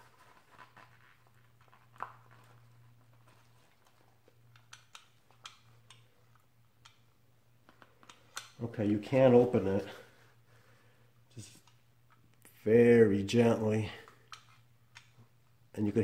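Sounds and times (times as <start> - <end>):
soft handling clicks and rubs: 0.0 - 10.4, 11.3 - 12.4, 13.9 - 15.6
faint low hum: 0.0 - 16.0.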